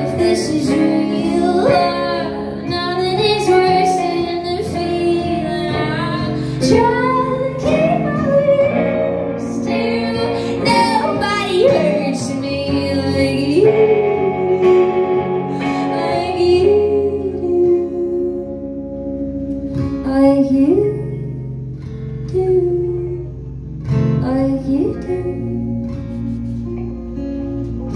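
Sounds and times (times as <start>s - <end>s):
live band music: 0.0s - 20.3s, 20.9s - 27.9s.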